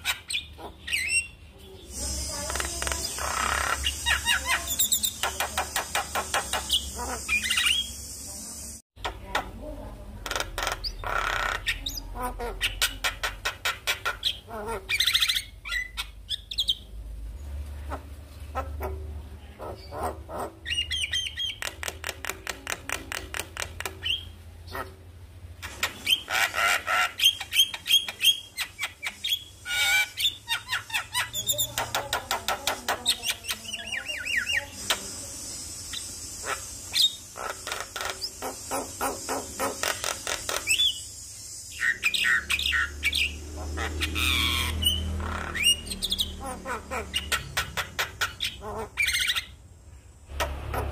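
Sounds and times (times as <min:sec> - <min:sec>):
bird chattering: 0:00.0 - 0:16.9, 0:17.8 - 0:49.6.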